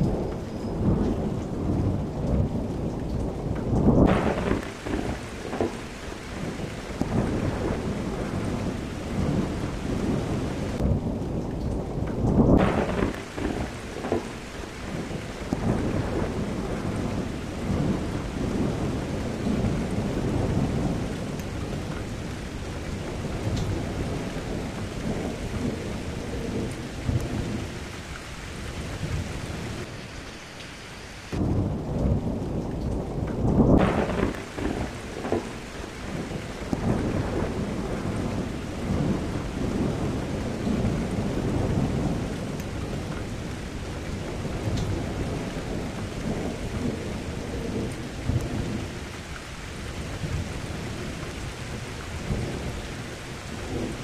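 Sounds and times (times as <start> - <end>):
low rolling thunder: 0.0 - 30.2, 31.4 - 54.0
steady rain: 0.0 - 54.0.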